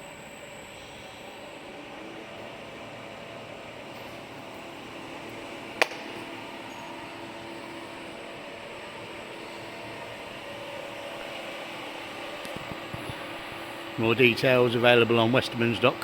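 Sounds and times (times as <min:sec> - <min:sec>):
machine drive humming: 0:00.0 - 0:16.0.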